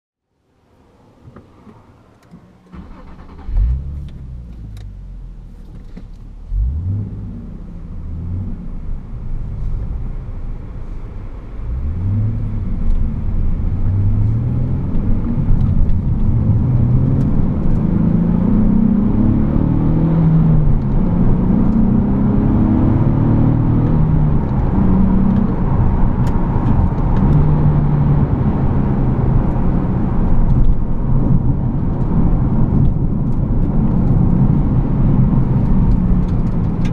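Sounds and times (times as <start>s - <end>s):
car engine revving through gears: 2.7s - 5.0s, 6.4s - 9.0s, 11.6s - 36.9s.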